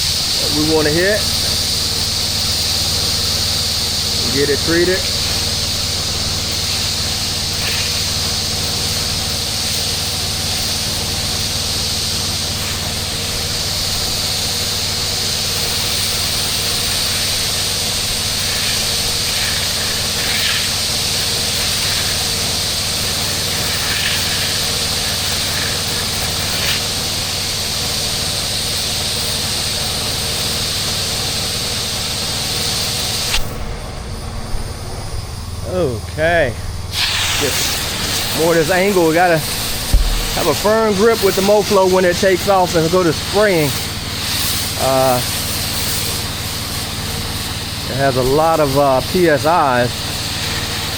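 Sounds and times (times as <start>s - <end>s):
hiss of spray: 0.0s - 33.6s, 36.9s - 50.9s
pump engine drone: 0.0s - 50.9s.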